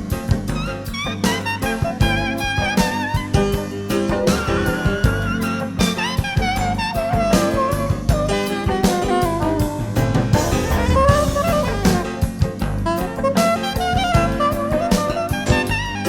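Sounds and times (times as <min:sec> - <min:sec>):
drum kit and bass groove: 0:00.0 - 0:16.0
electric guitar bending notes: 0:00.0 - 0:16.0.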